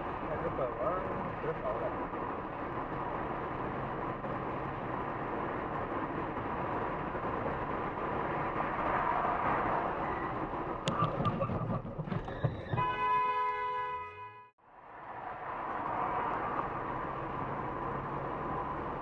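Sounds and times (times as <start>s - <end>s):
car cabin road noise: 0.0s - 14.3s, 14.9s - 19.0s.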